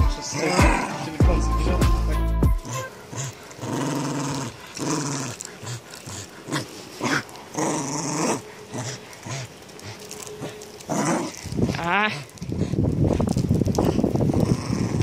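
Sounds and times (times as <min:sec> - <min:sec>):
dog growling in play: 0:02.6 - 0:15.0.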